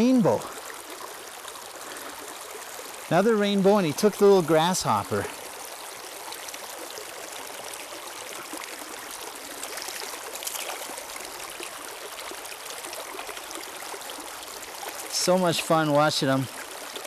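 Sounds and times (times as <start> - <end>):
light water splashes: 0.0 - 17.0
stream running over rocks: 0.0 - 17.0.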